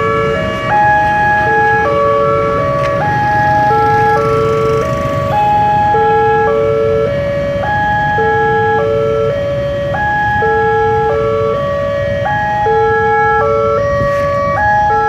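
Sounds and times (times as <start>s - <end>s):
level crossing alarm melody: 0.0s - 15.0s.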